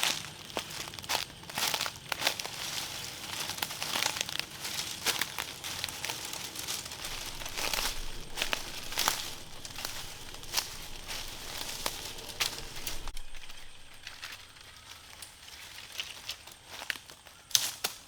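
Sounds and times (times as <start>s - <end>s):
crinkling and rustling: 0.0s - 17.7s.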